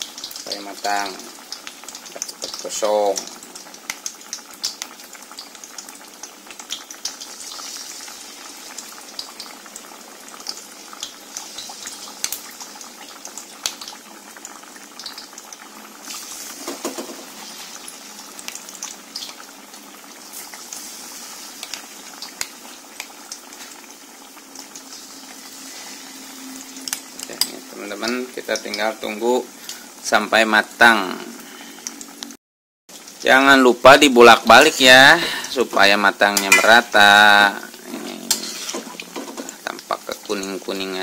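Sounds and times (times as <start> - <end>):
food deep-frying in hot oil: 0.0 - 41.0.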